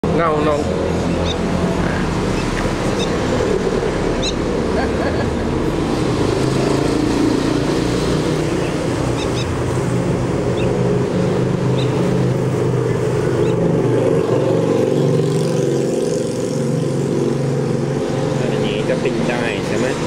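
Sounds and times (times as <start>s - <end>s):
engine drone: 0.0s - 20.0s.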